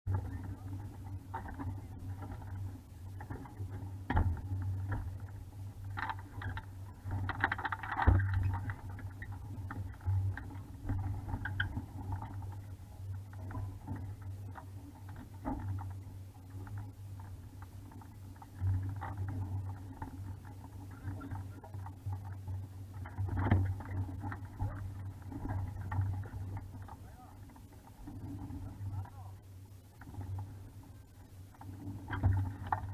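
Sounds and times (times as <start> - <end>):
hull and fittings knocking: 0.1 - 29.3
steady low hum: 0.1 - 32.9.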